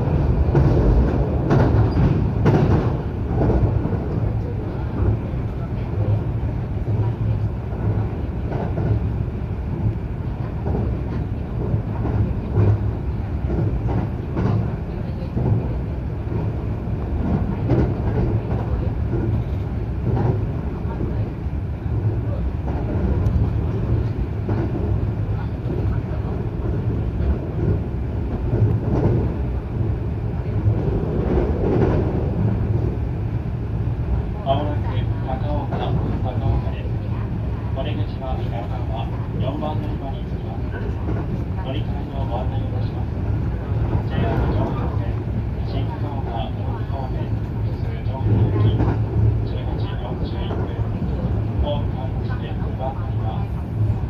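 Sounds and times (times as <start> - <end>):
train clatters: 0.0 - 54.0
train wheels rumbling on rail: 0.0 - 54.0.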